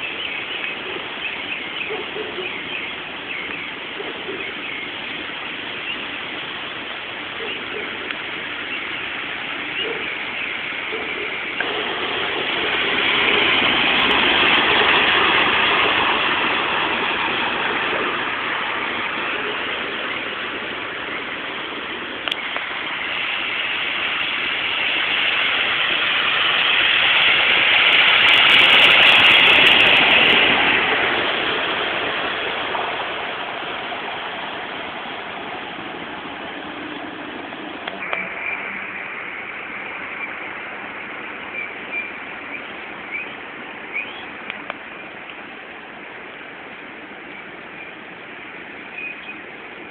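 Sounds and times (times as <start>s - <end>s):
storm water rushing on street: 0.0s - 49.9s.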